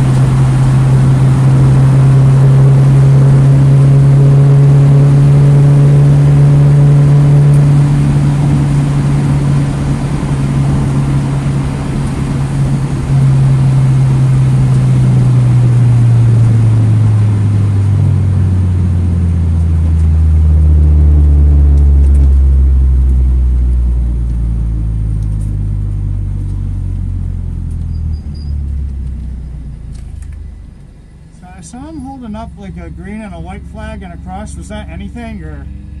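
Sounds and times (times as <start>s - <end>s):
car engine pulling hard: 0.0s - 36.0s.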